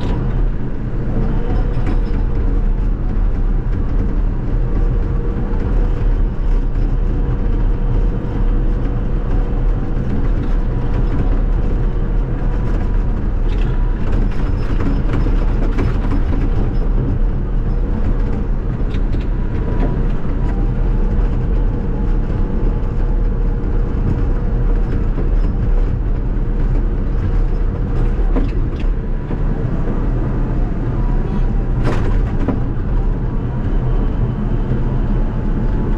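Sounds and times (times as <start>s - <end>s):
knocks and rattles: 0.0s - 34.1s
bulldozer diesel engine running: 0.0s - 35.9s
constant whine: 0.0s - 35.9s.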